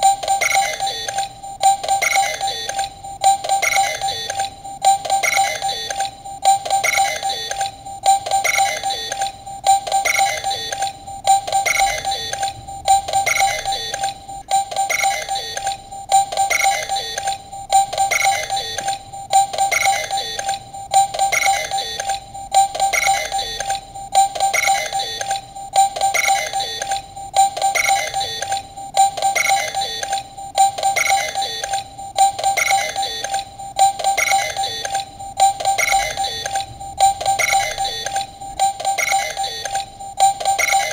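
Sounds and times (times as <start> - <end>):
toy electronic beeping phrase: 0.0 - 40.9.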